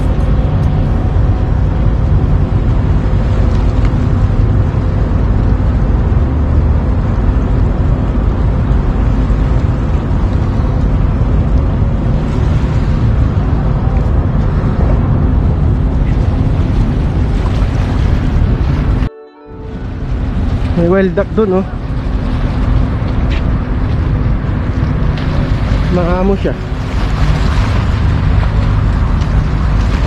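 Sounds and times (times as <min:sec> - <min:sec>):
loud low rumble: 0:00.0 - 0:30.0.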